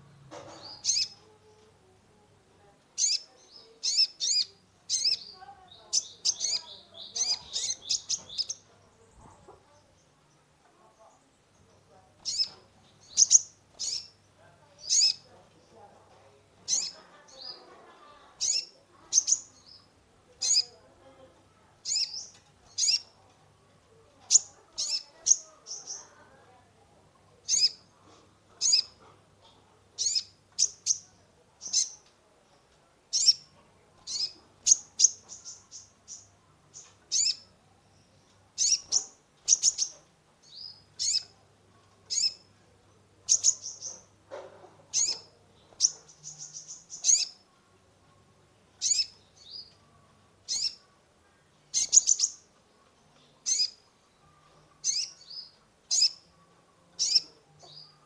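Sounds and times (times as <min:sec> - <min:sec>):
sunbird chirps and trills: 0:00.5 - 0:01.6, 0:03.0 - 0:16.0, 0:16.6 - 0:20.9, 0:21.8 - 0:23.2, 0:24.2 - 0:26.5, 0:27.4 - 0:27.9, 0:30.0 - 0:32.1, 0:33.1 - 0:42.6, 0:43.2 - 0:44.2, 0:44.9 - 0:47.5, 0:48.8 - 0:51.0, 0:51.6 - 0:58.0.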